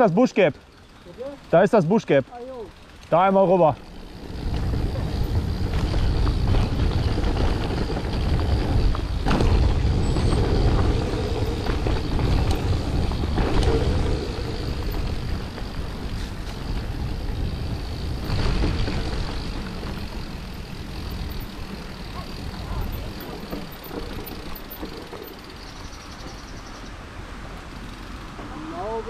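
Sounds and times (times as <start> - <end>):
tyres rumbling on gravel: 0.0 - 29.0
bike knocking on bumps: 3.0 - 26.8
wind buffeting microphone: 3.8 - 27.2.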